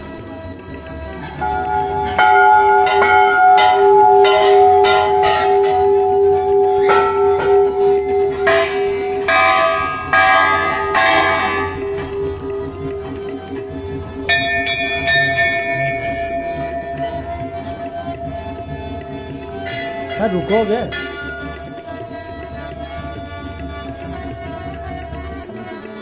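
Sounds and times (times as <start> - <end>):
long bell hum: 0.0 - 26.0
brass bells ringing: 1.2 - 24.5.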